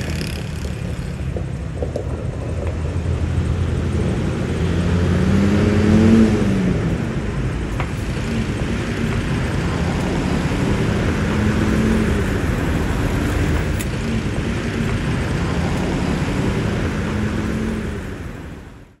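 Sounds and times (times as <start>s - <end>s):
diesel engines humming: 0.0s - 19.0s.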